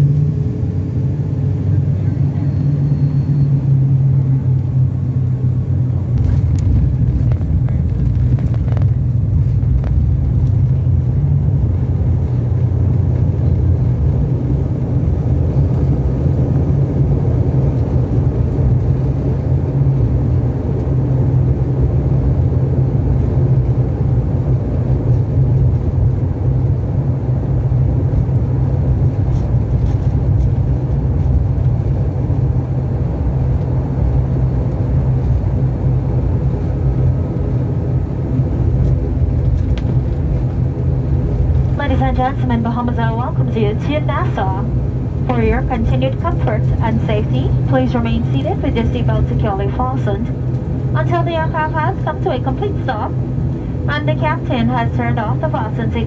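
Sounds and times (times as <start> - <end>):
turboprop cabin drone: 0.0 - 56.0.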